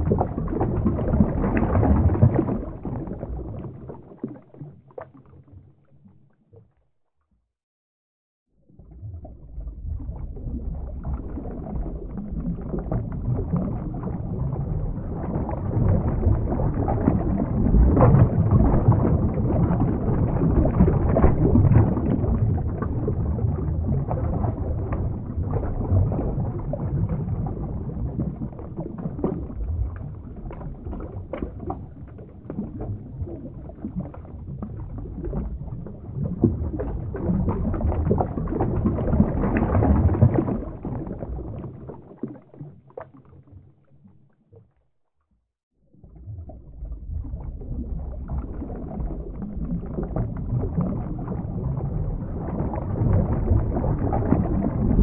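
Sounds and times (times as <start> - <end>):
underwater churning water rumble: 0.0 - 6.9, 8.6 - 45.1, 45.8 - 55.0
bubbling crackle: 0.0 - 7.2, 8.7 - 55.0.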